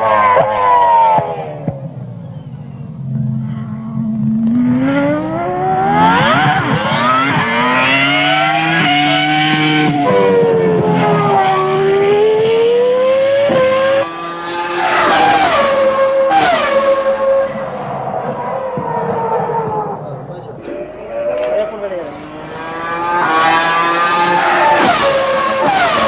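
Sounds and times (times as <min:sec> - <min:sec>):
racing car engine at high revs: 0:00.0 - 0:26.0.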